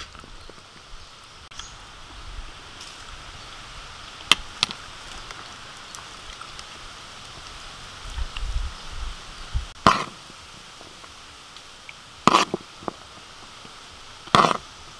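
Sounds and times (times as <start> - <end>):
outdoor hiss: 0.0 - 14.9.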